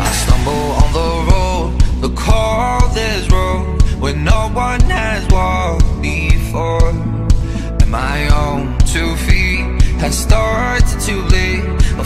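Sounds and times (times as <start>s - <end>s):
song with singing over a beat: 0.0s - 12.0s.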